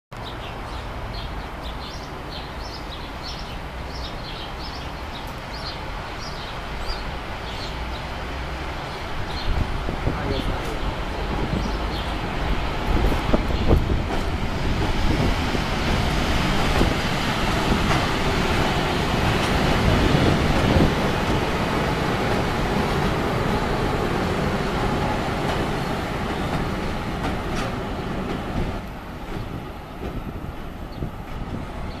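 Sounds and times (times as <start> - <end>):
electric locomotive passing: 0.6 - 32.0.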